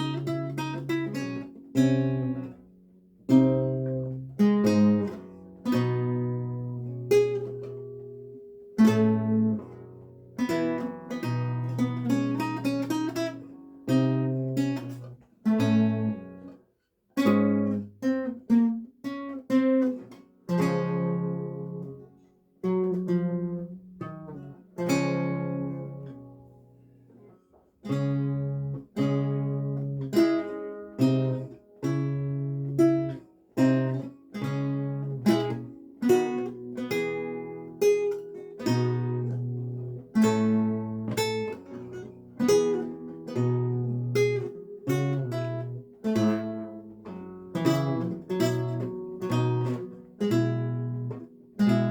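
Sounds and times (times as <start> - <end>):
solo lute playing: 0.0 - 16.6, 17.2 - 51.9.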